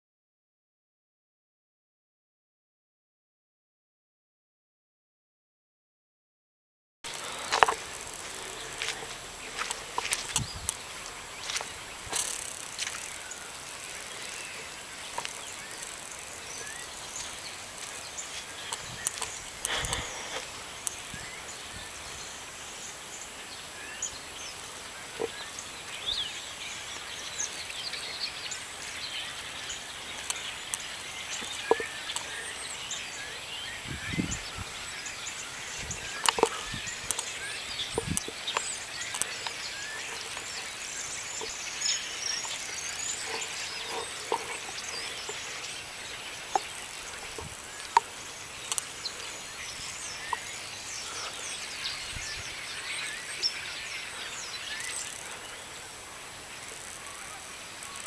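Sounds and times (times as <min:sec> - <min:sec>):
high chirping ticks: 0:07.1 - 0:58.0
light rain hiss: 0:07.1 - 0:58.0.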